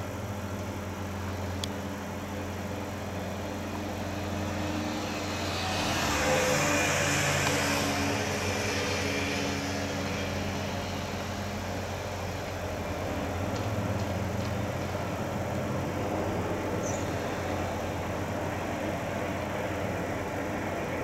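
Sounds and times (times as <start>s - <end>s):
low engine drone: 0.0s - 21.0s
vehicle passing by: 3.3s - 21.0s.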